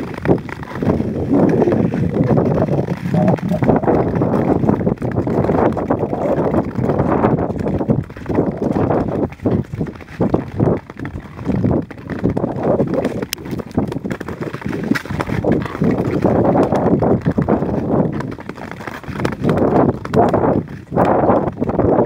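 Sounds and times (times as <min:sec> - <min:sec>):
ice skates scraping on ice: 0:00.0 - 0:06.7, 0:07.4 - 0:21.2.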